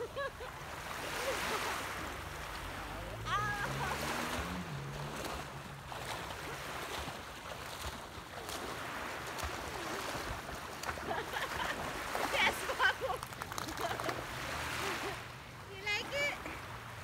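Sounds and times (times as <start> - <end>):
water splashing from swimming: 0.0 - 17.0
waves washing onto pebbles: 0.3 - 17.0.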